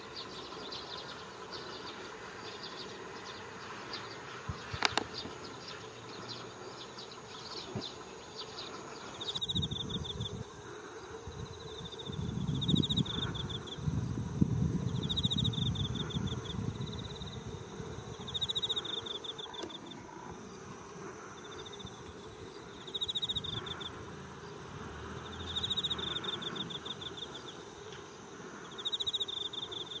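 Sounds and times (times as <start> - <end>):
insect buzzy trills: 0.0 - 30.0.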